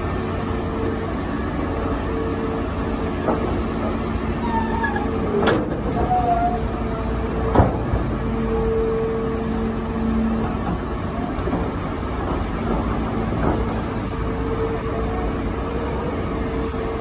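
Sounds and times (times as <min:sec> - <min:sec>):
diesel engines droning: 0:00.0 - 0:17.0.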